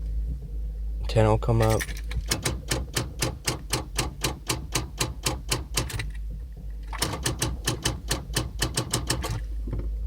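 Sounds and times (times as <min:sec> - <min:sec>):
rapid electrical clicking in car: 0:01.7 - 0:09.9.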